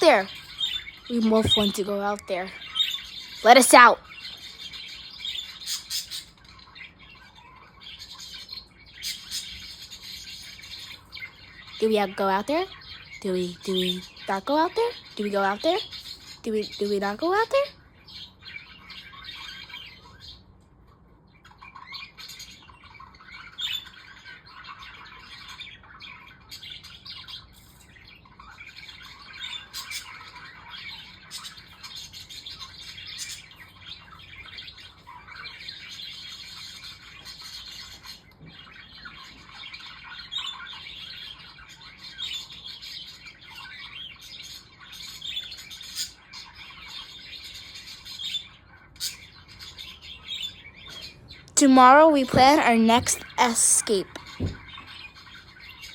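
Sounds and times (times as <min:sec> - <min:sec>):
budgerigars chirping and squawking: 0:00.0 - 0:20.5, 0:21.3 - 0:55.9.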